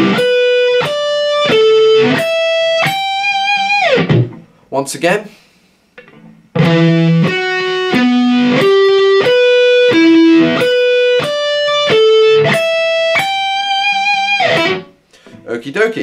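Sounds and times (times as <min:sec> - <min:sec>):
electric guitar notes: 0:00.0 - 0:04.5, 0:06.0 - 0:15.5.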